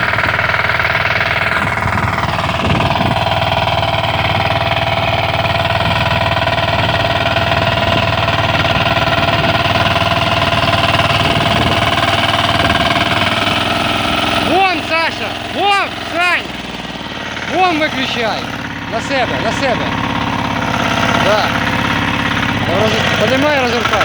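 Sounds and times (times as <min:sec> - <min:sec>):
walk-behind tractor engine running: 0:00.0 - 0:24.0.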